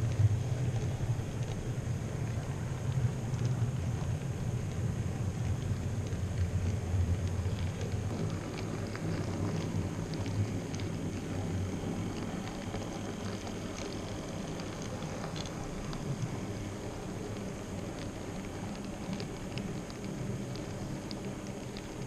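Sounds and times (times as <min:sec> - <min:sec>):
wheels rolling on rails: 0:00.0 - 0:22.0.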